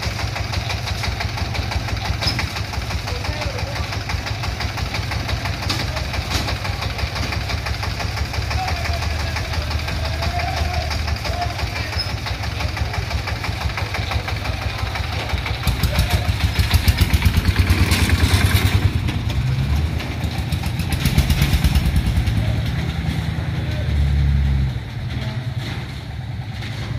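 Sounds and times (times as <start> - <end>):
diesel engine idling and revving: 0.0 - 26.9.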